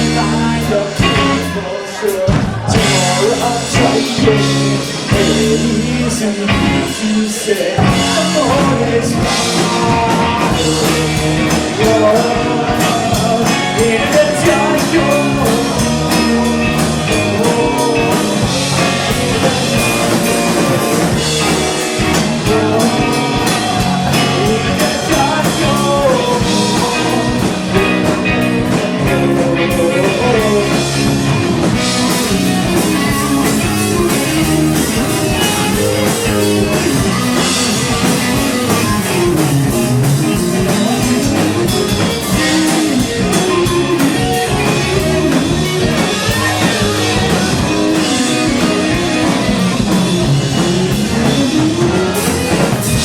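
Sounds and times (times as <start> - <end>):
rock band playing: 0.0 - 53.0
guitar bending notes: 7.8 - 53.0.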